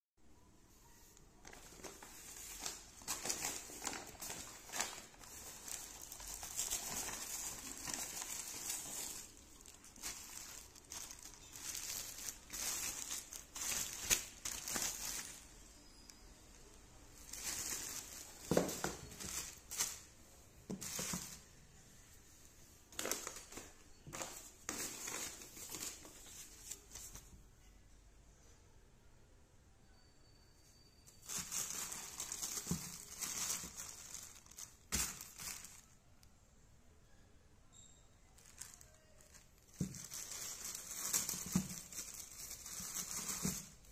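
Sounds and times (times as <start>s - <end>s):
plastic bag and paper crinkling: 1.1s - 21.6s, 22.9s - 27.4s, 31.2s - 36.0s, 38.4s - 43.9s.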